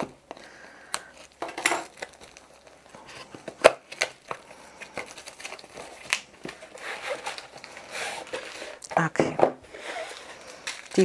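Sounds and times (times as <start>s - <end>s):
cardboard rustling: 1.2s - 11.0s.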